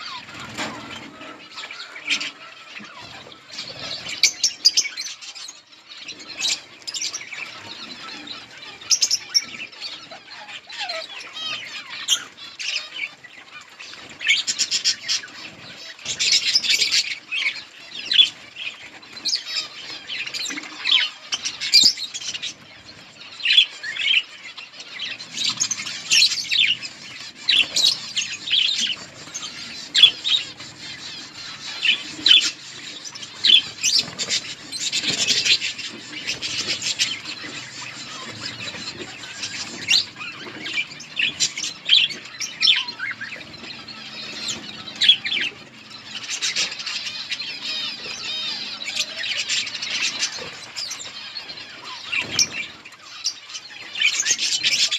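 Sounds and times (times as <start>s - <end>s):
wings flapping: 0.0s - 4.8s, 11.3s - 54.9s
budgerigars chirping: 0.0s - 54.9s.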